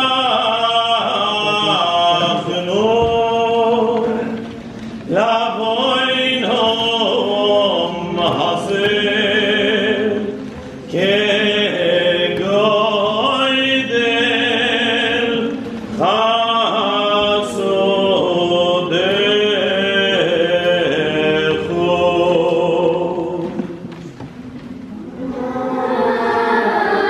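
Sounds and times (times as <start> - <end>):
choir of boys and men singing: 0.0 - 4.5, 5.1 - 23.8, 25.1 - 27.0.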